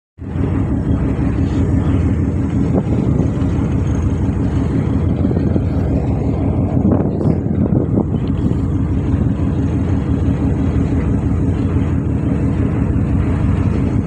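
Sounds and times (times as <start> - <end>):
ship engine low rumble: 0.2 - 14.0
steady engine hum: 0.2 - 14.0.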